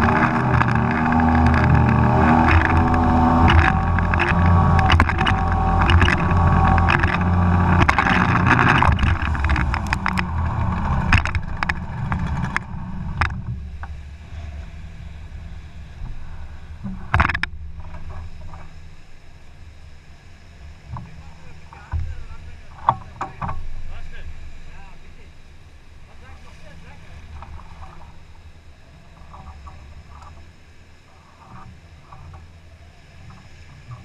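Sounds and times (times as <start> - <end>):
low engine hum: 0.0 - 34.0
outboard motor running hard: 0.0 - 34.0
water slapping against hull: 0.0 - 34.0.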